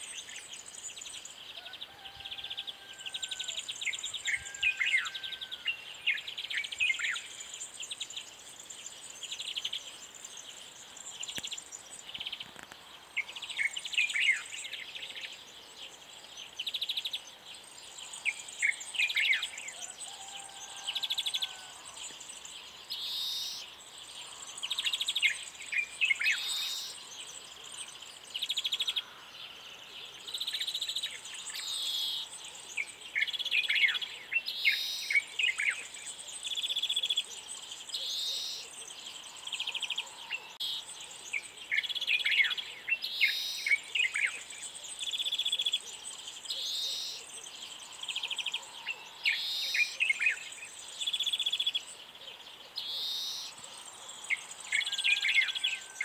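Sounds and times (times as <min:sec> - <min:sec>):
faint high hiss: 0:00.0 - 0:02.1, 0:02.7 - 0:56.0.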